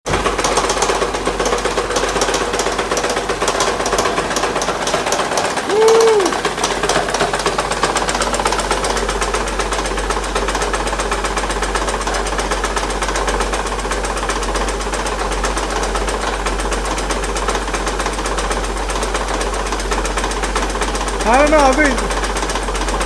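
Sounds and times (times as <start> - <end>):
car engine knocking: 0.0 - 23.0.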